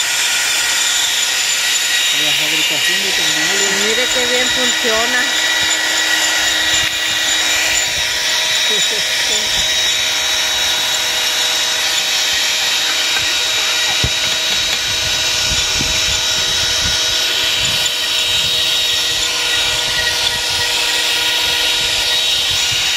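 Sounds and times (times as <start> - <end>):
electric drill motor whine: 0.0 - 22.9
grain mill knocking and crunching: 0.0 - 22.9.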